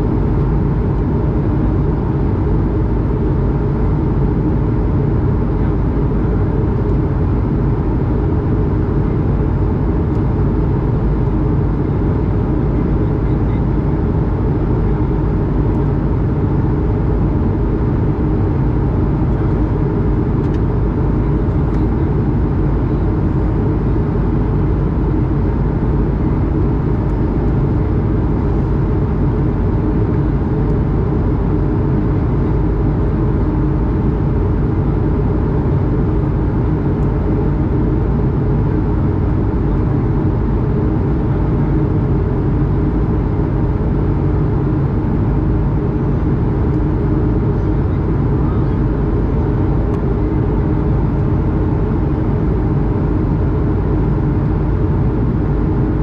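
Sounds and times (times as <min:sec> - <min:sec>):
aircraft cabin engine rumble: 0:00.0 - 0:56.0
faint steady hums: 0:00.0 - 0:56.0.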